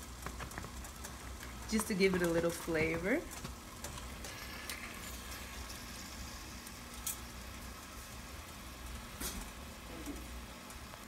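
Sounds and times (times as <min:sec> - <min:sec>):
stew frying in oil: 0:00.0 - 0:11.0.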